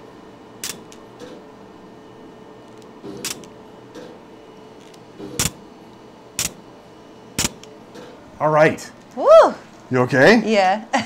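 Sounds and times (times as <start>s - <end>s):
laser unit hum: 0.0s - 11.0s.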